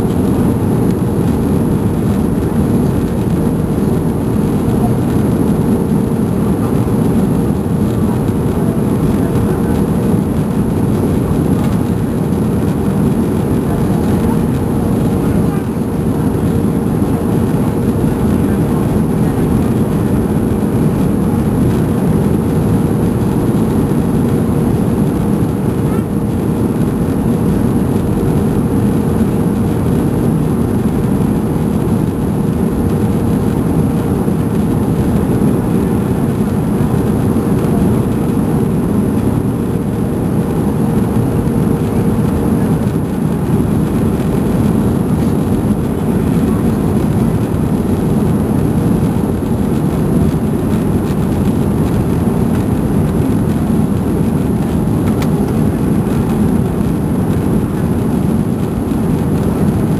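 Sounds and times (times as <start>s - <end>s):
jet engines droning: 0.0s - 59.9s
rush of airflow: 0.0s - 59.9s
steady hum: 0.0s - 59.9s.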